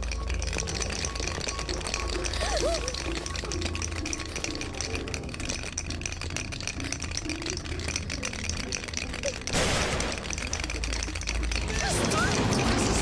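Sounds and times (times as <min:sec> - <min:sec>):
fast rattling percussion beat: 0:00.0 - 0:13.0.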